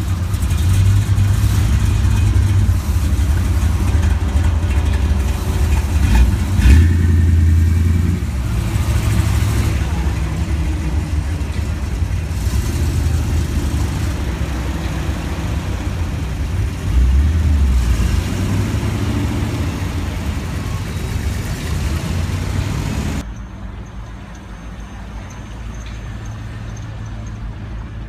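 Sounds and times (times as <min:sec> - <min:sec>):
car engine rumbling past: 0:00.0 - 0:23.2.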